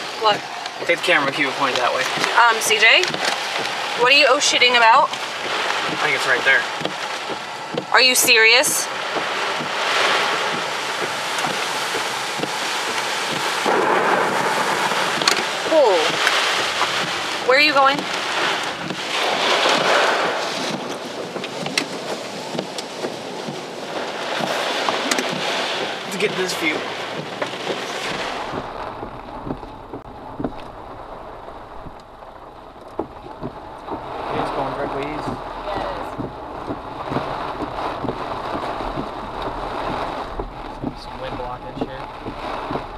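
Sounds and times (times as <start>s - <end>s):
heavy rain lashing a car: 0.0s - 42.9s
rain and debris tapping: 0.0s - 42.9s
wind gusts: 0.0s - 42.9s.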